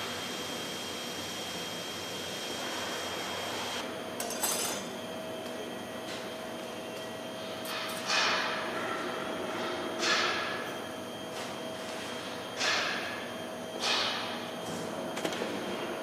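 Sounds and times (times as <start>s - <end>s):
workshop hum: 0.0s - 16.0s.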